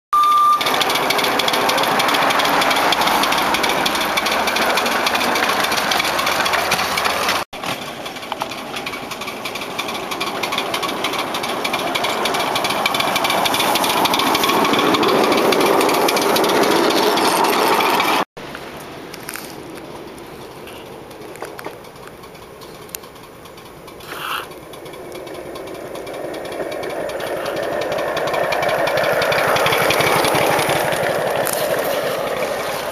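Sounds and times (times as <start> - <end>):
miniature steam locomotive clatter: 0.2 - 32.9.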